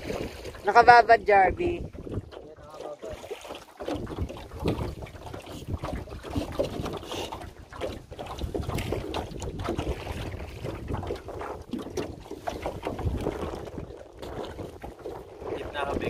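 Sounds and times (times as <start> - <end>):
wind on microphone: 0.0 - 3.2, 3.8 - 16.0
water lapping against boat: 0.0 - 16.0.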